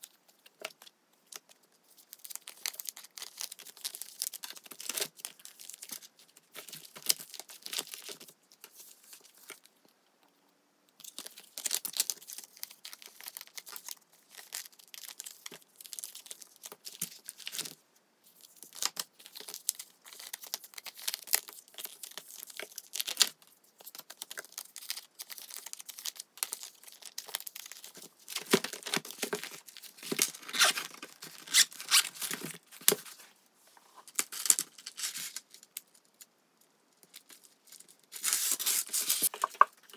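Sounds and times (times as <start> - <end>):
plastic binder pages crinkling: 0.0 - 9.9, 11.0 - 36.0, 37.0 - 39.9.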